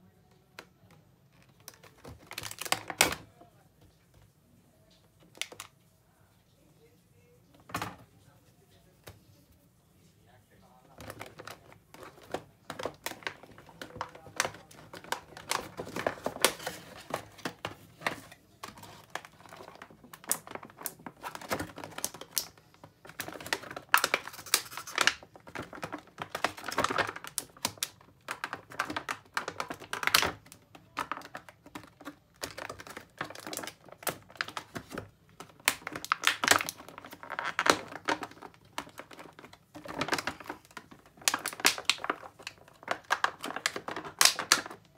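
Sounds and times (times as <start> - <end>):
plastic packaging crinkling: 1.3 - 3.4, 10.8 - 44.9.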